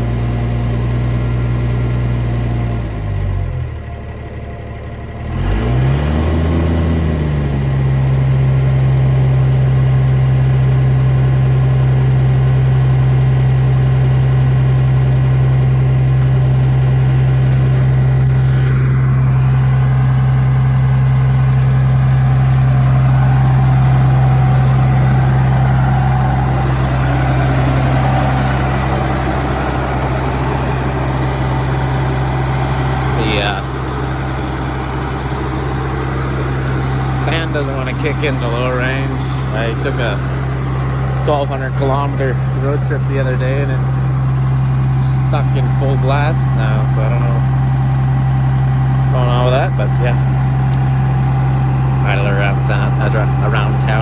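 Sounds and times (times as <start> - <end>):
diesel engine idling: 0.0 - 54.0
engine cooling fan: 0.0 - 54.0.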